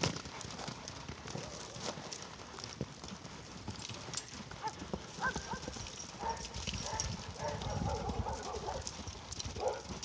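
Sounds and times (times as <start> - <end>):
horse hooves clip-clopping: 0.0 - 10.0.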